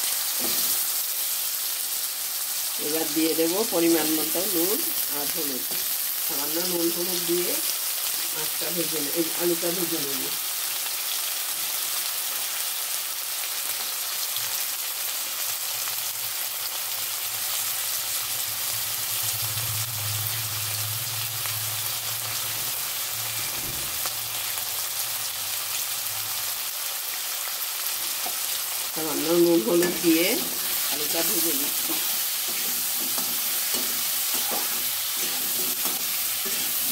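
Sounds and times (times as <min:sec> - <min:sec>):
potatoes sizzling in hot oil: 0:00.0 - 0:36.9.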